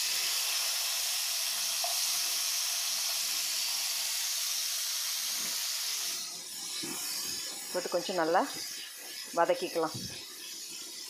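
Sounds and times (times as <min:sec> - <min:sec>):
vegetable slices sizzling in oil: 0:00.0 - 0:11.0.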